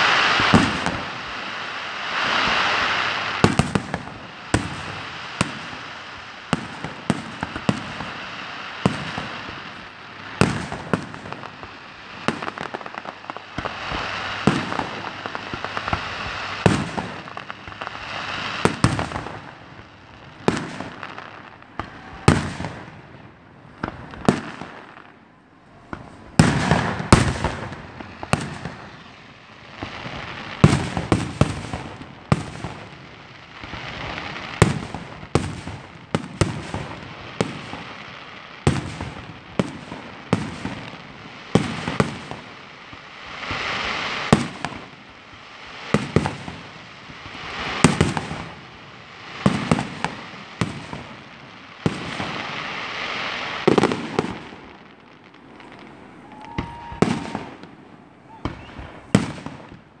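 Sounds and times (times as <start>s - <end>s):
fireworks bursting: 0.0s - 60.0s.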